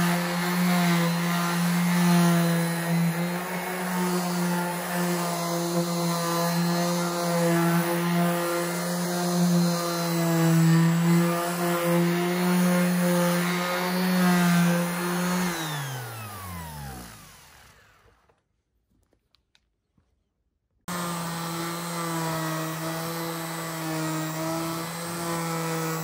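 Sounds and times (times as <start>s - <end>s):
orbital sander running: 0.0s - 18.2s, 20.9s - 26.0s
sander motor winding down: 0.0s - 18.3s, 20.9s - 26.0s.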